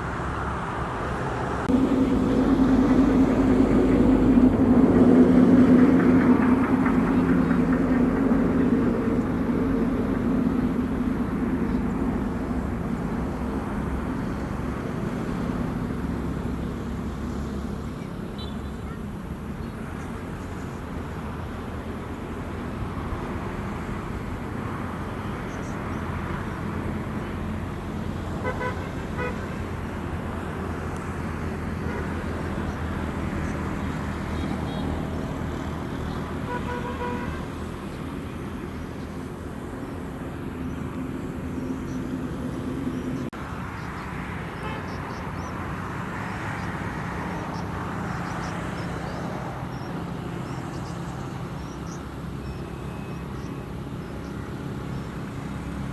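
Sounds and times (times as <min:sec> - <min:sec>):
vehicle engines passing: 0:00.0 - 0:55.9.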